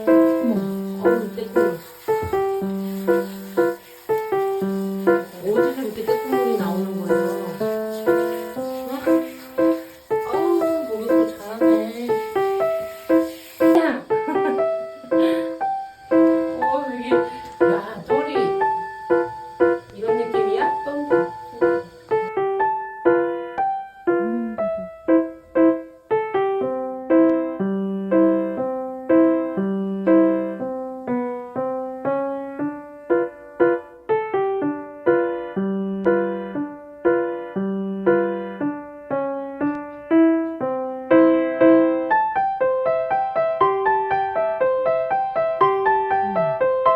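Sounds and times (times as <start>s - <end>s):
gentle piano melody: 0.0s - 46.9s.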